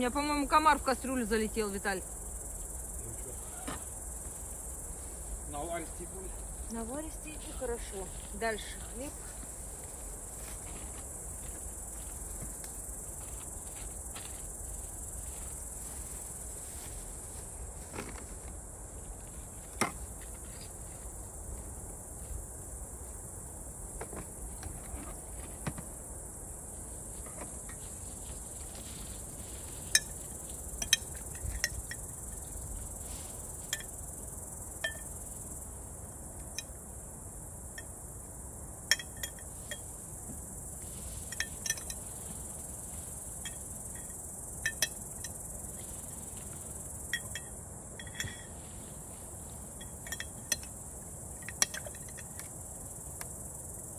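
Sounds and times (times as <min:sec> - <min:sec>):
insects chirring: 0:00.0 - 0:53.9.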